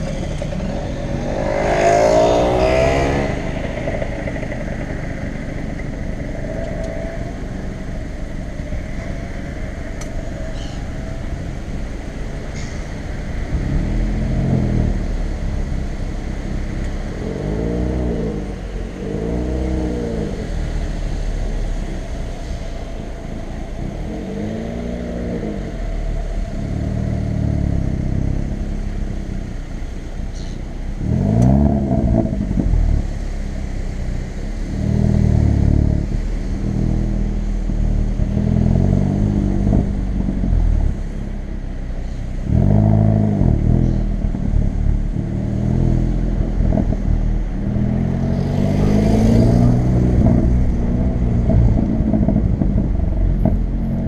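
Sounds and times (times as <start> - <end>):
car engine revving in blips: 0.0 - 54.0.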